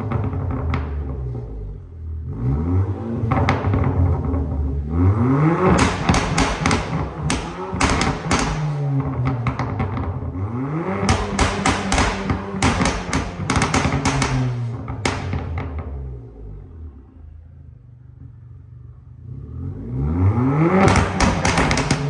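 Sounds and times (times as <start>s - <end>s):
exhaust cracks: 0.0s - 16.8s, 20.3s - 22.0s
car engine revving: 0.0s - 17.4s, 18.0s - 22.0s.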